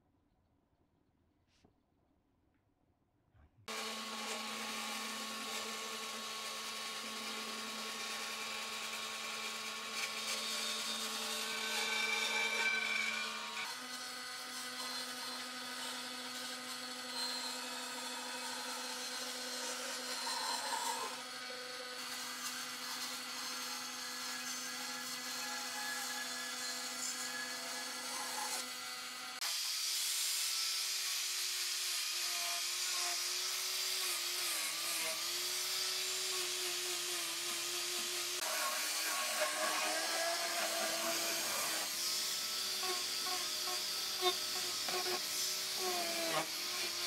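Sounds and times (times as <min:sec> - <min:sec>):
band saw cutting wood: 0:03.7 - 0:47.0.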